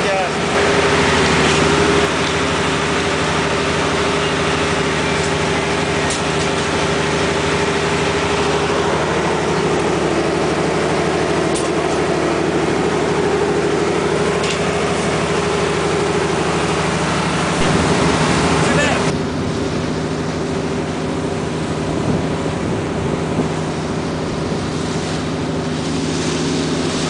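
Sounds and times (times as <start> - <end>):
boat engine droning: 0.0 - 27.0
water: 0.0 - 27.0
wind: 0.0 - 27.0.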